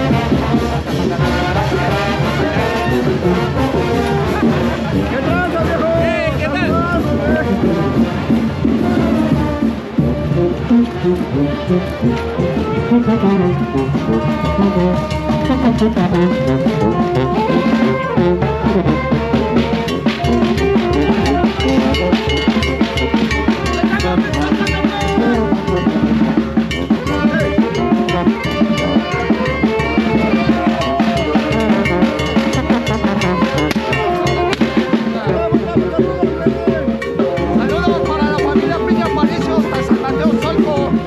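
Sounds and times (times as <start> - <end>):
band music with driving drum beat: 0.0 - 41.0.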